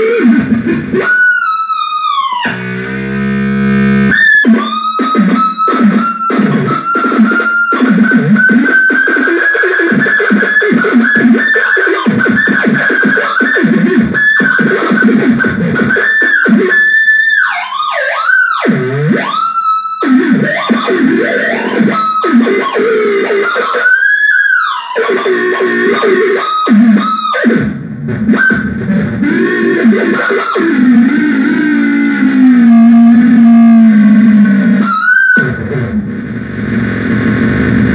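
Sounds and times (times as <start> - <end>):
distorted electronic noise box tones: 0.0 - 37.9.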